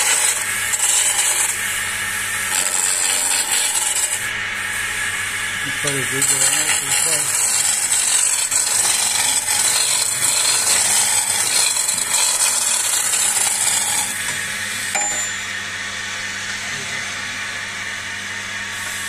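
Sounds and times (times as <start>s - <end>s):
chisel shearing wood shavings: 0.0s - 15.4s, 18.7s - 19.0s
lathe humming: 0.0s - 19.0s.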